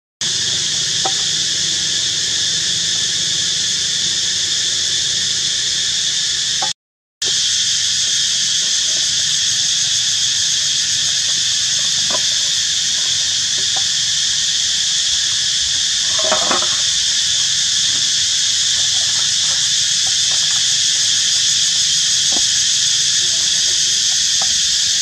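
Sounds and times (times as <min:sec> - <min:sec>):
high-pitched insect chorus: 0:00.2 - 0:25.0.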